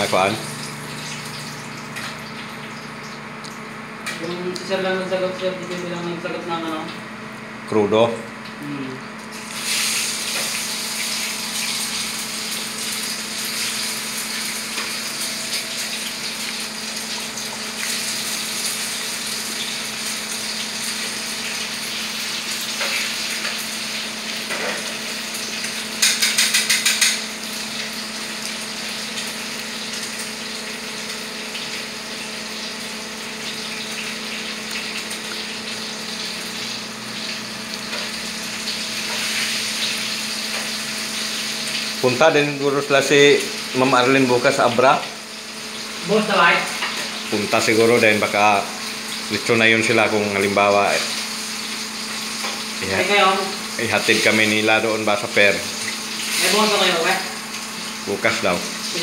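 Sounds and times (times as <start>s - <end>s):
food sizzling in hot oil: 0.0s - 4.8s, 9.1s - 59.0s.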